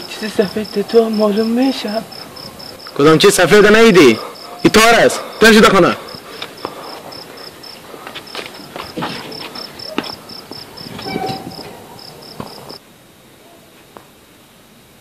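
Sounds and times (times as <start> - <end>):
cricket chirping: 0.0 - 13.6
faint hiss: 0.0 - 15.0.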